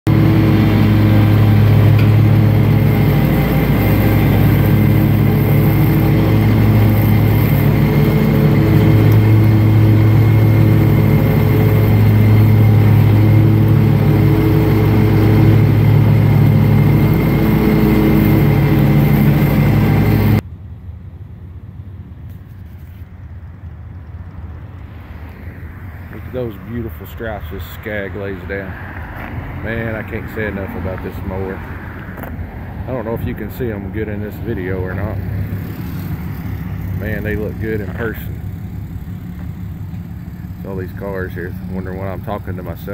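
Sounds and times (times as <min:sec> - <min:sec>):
riding mower engine running: 0:00.0 - 0:20.5, 0:21.5 - 0:42.9.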